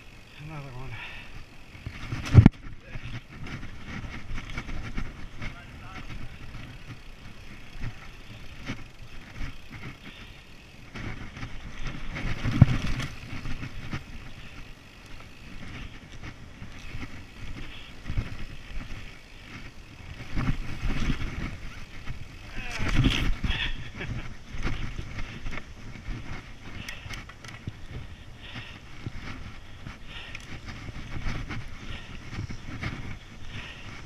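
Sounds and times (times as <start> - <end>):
bike rattling and knocking: 0.0 - 34.0
bike tyres on dirt: 0.0 - 34.0
wind noise on microphone: 1.7 - 34.0.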